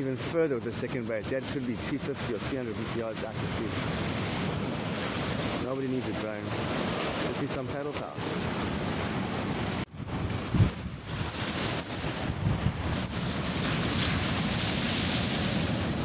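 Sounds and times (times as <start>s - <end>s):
ocean surf breaking: 0.0s - 16.0s
wind buffeting microphone: 0.8s - 16.0s.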